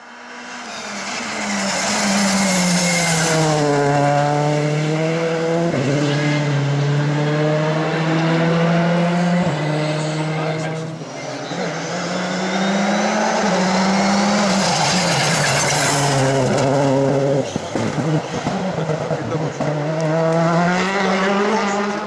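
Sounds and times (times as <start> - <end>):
rally car engine: 0.0 - 22.0.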